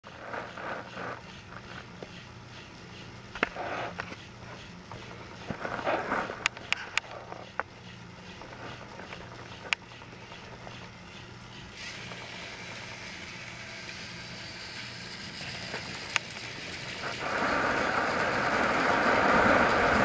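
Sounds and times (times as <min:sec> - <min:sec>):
toy trains whirring: 0:00.1 - 0:20.0.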